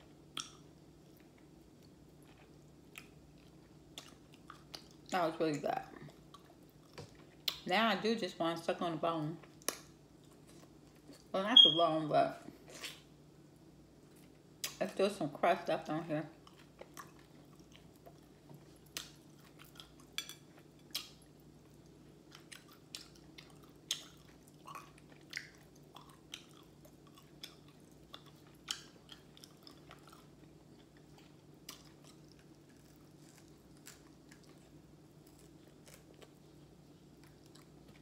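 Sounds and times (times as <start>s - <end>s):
chewing crunchy fried chicken: 0.0s - 5.1s, 5.8s - 7.6s, 9.3s - 11.3s, 16.2s - 38.0s.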